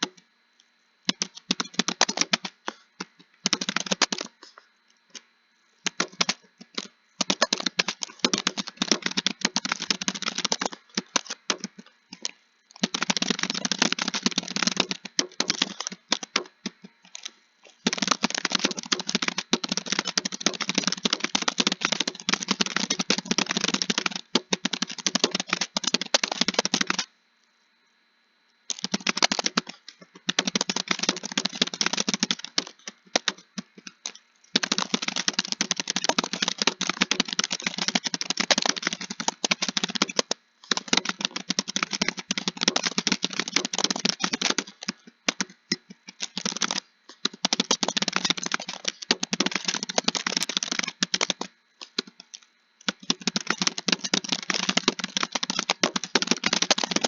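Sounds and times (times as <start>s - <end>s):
typing on computer keyboard: 1.1s - 4.4s, 5.8s - 27.1s, 28.7s - 57.0s.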